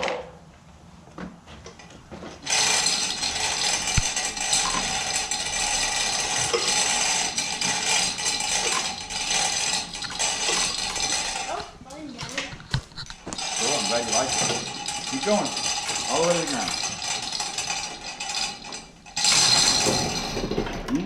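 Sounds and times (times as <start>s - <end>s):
jack mechanism clattering: 2.4s - 21.0s.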